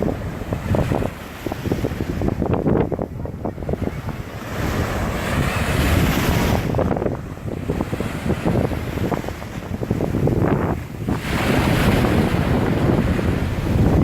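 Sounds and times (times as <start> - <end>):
ocean surf breaking: 0.0 - 14.0
wind buffeting microphone: 0.0 - 14.0.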